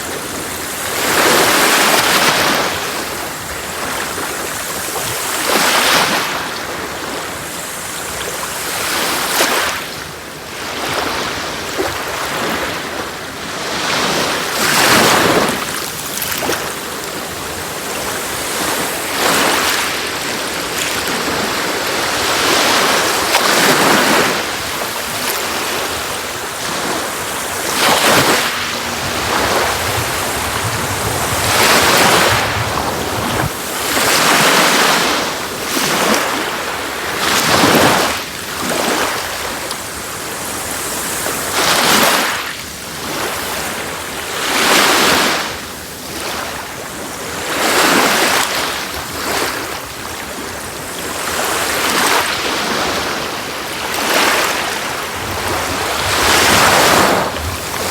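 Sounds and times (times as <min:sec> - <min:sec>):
sea waves breaking on beach: 0:00.0 - 0:57.9.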